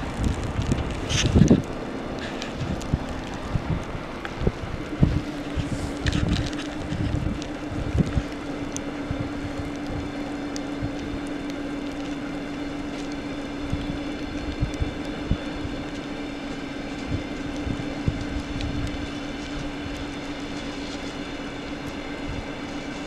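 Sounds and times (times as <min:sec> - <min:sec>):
steady hum: 0:00.0 - 0:23.0
train coaches rolling on rails: 0:00.0 - 0:23.0
wind buffeting microphone: 0:00.0 - 0:23.0.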